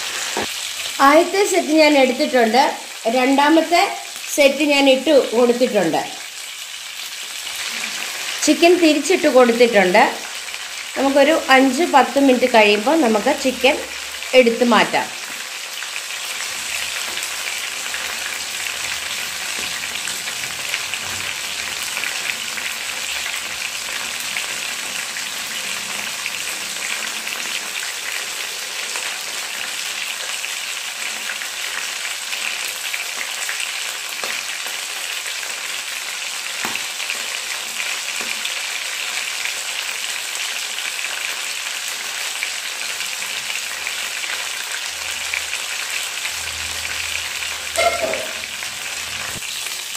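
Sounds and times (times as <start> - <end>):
chicken sizzling in hot oil: 0.0 - 49.9.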